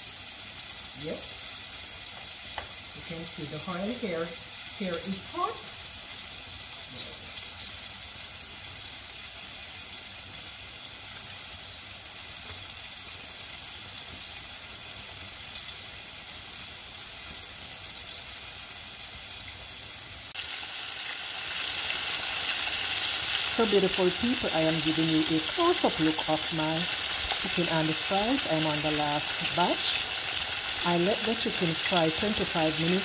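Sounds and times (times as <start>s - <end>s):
food deep-frying in oil: 0.0s - 33.0s.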